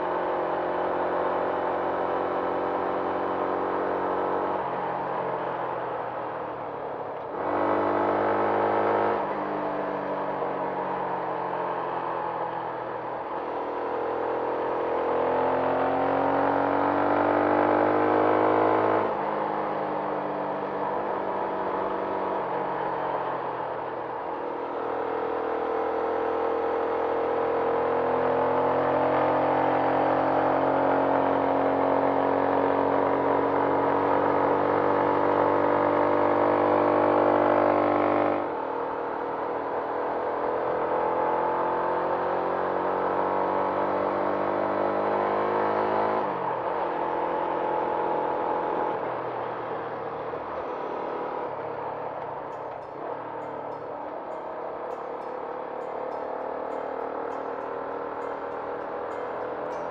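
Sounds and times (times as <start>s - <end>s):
wind and road noise: 0.0s - 59.9s
motorcycle engine revving: 7.2s - 9.8s, 13.0s - 59.9s.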